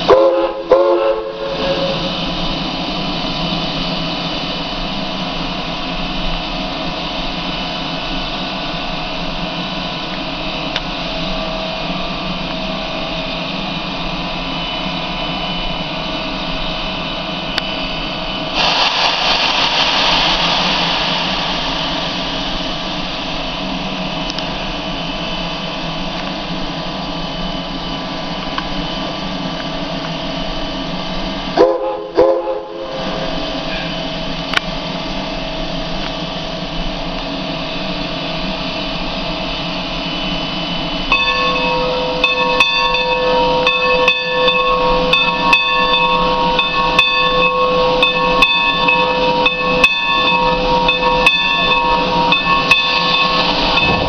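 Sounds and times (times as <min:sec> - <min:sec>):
rush of escaping steam: 0:00.0 - 0:12.2, 0:12.9 - 0:54.0
steam locomotive hissing: 0:00.0 - 0:54.0.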